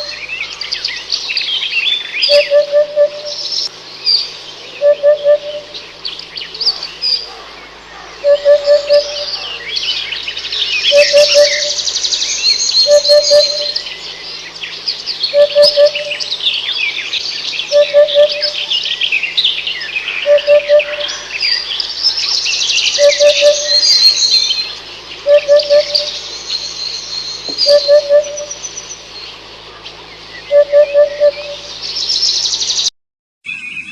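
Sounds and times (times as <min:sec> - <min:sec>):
birds chirping and trilling: 0:00.0 - 0:32.9, 0:33.5 - 0:33.9
low pulsed bird note: 0:00.0 - 0:32.9.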